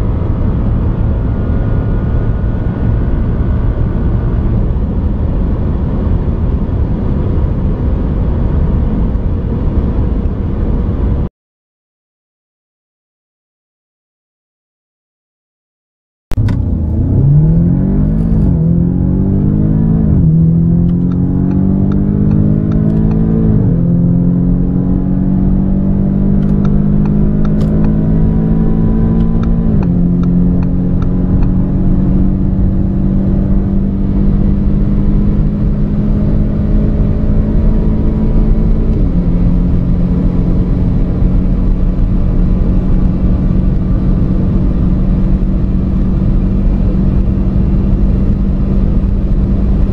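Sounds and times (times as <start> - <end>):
car engine accelerating through gears: 0.0 - 11.0, 16.3 - 49.9.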